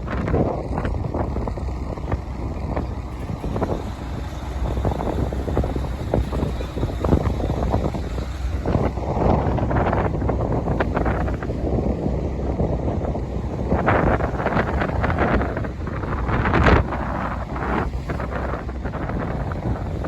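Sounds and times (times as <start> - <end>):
boat motor droning: 0.0 - 20.0
wind buffeting microphone: 0.0 - 20.0.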